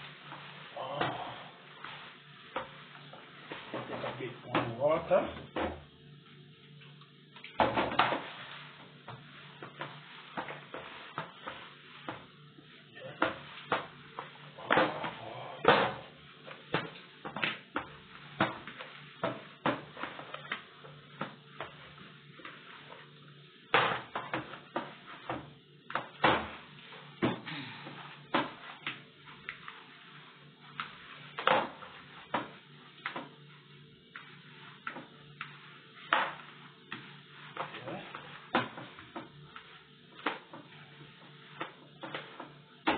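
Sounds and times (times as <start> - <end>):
dough slapping in a bowl: 7.4 - 42.9.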